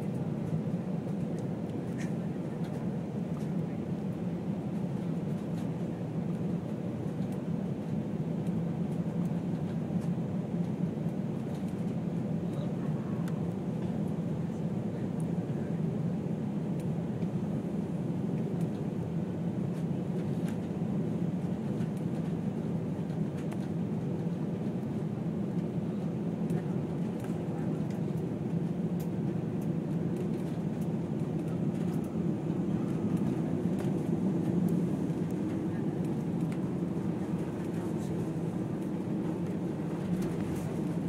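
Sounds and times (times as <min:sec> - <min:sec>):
airliner cabin engine rumble: 0:00.0 - 0:41.0.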